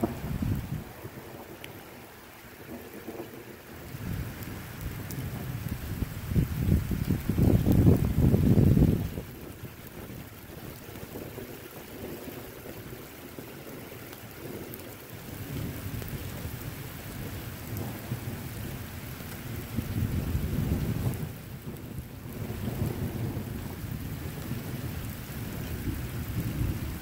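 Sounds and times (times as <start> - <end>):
rain hissing: 0.0 - 27.0
rolling thunder: 0.0 - 27.0.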